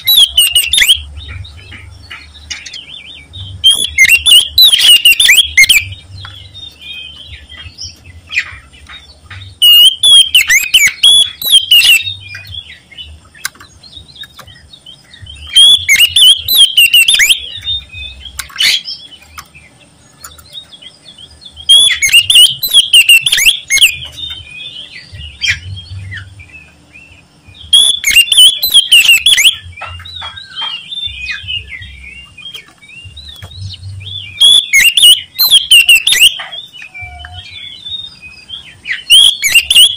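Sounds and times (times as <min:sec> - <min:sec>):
bird twittering: 0:00.0 - 0:39.9
bird whistled song: 0:00.0 - 0:39.9.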